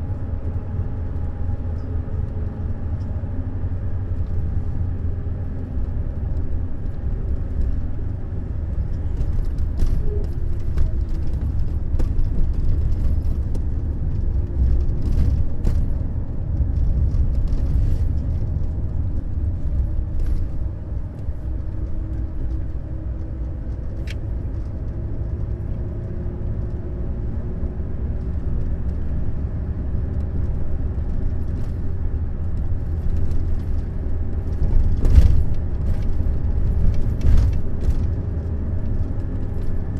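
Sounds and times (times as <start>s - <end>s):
coach engine and road rumble: 0.0s - 39.9s.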